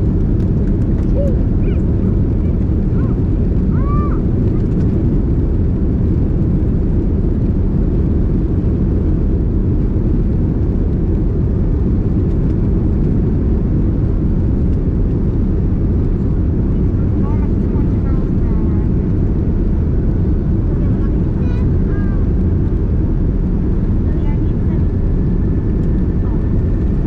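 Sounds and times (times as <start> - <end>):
aircraft cabin rumble: 0.0 - 27.0.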